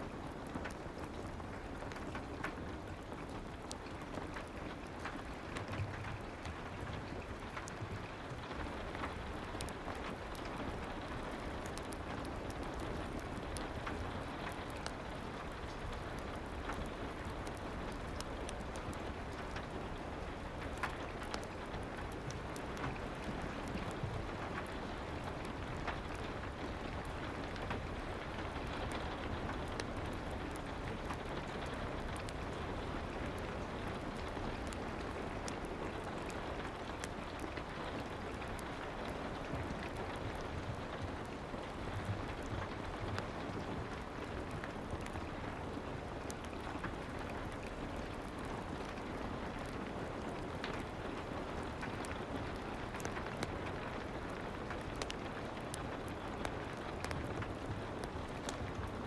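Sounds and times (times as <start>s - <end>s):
soft rain: 0.0s - 59.0s
fireplace crackling: 0.1s - 58.9s.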